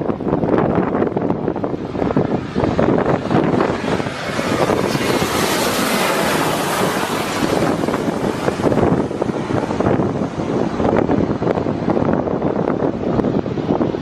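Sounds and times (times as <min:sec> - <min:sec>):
jet airliner roaring past: 0:00.0 - 0:14.0
wind buffeting microphone: 0:00.0 - 0:14.0.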